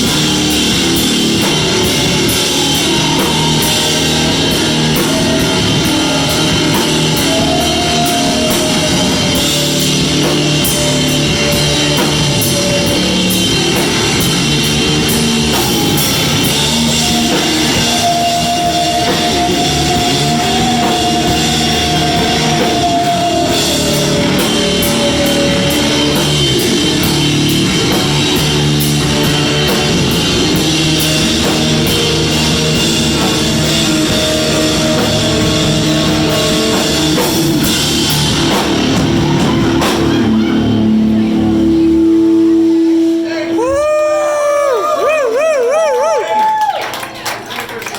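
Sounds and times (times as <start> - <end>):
rock band playing: 0.0 - 47.9.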